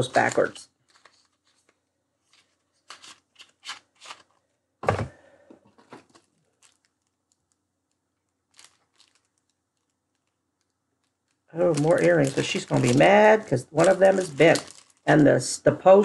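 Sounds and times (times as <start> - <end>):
packets crinkling and tearing: 0.0 - 4.4, 6.0 - 15.4.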